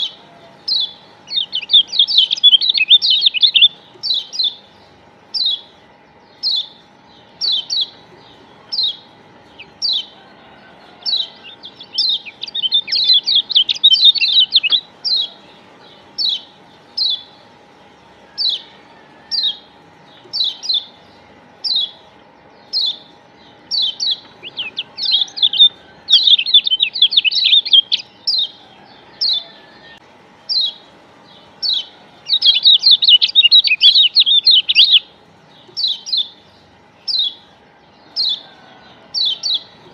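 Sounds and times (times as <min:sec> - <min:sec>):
bird twittering fast: 0:00.0 - 0:10.2, 0:11.0 - 0:17.5, 0:18.3 - 0:28.6, 0:31.5 - 0:37.4
bird chirping: 0:00.0 - 0:39.9.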